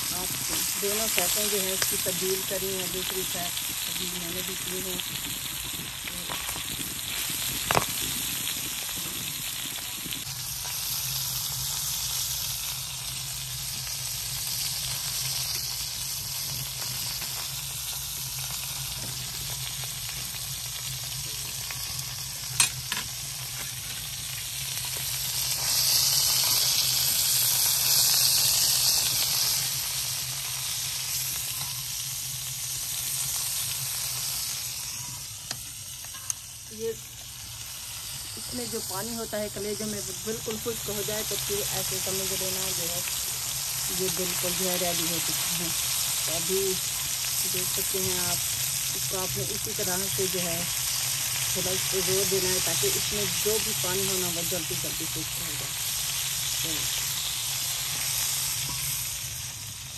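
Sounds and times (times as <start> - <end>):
meat sizzling in hot fat: 0.0 - 59.9.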